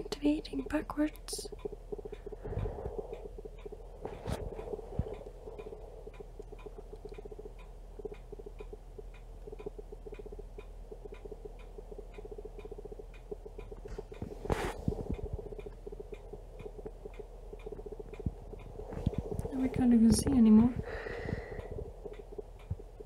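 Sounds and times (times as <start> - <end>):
camera autofocus motor ticking: 0.6 - 19.5.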